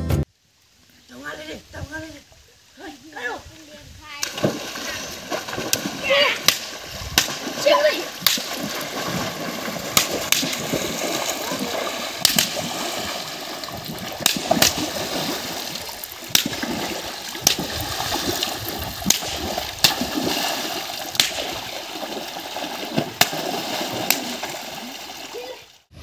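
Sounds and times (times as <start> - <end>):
sticks slapping water: 4.2 - 25.6
water sloshing and splashing: 4.2 - 25.9.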